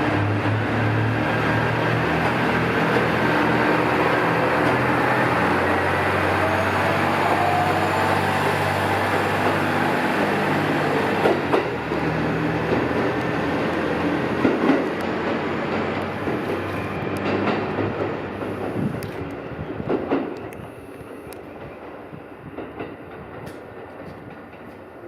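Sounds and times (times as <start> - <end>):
diesel railcar engine drone: 0.0 - 22.5.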